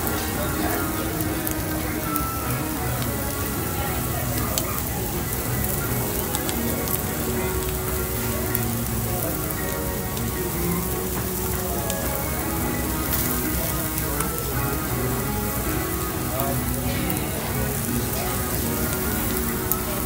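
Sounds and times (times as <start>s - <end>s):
background music: 0.0s - 20.0s
meat sizzling on a grill: 0.0s - 20.0s.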